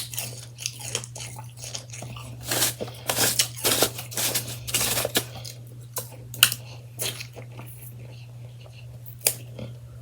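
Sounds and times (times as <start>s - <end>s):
ice crunching while chewed: 0.0s - 9.8s
steady low hum: 0.0s - 10.0s.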